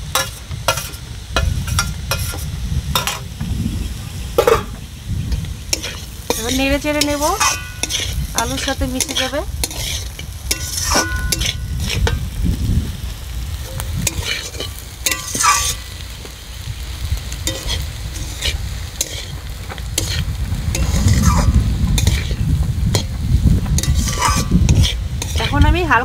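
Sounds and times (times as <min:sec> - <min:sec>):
food sizzling in a pan: 0:00.0 - 0:26.0
utensil scraping a pan: 0:00.1 - 0:03.3, 0:04.4 - 0:12.4, 0:13.7 - 0:15.9, 0:17.4 - 0:25.8.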